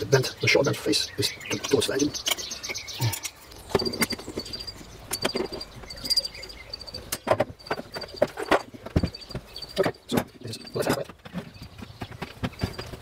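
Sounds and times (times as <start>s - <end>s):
faint high chirping: 0.1s - 10.9s
metallic clicks and knocks: 1.5s - 13.0s.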